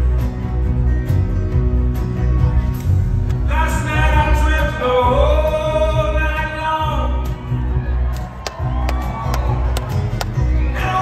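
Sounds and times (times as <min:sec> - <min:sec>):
acoustic folk-rock band playing: 0:00.0 - 0:11.0.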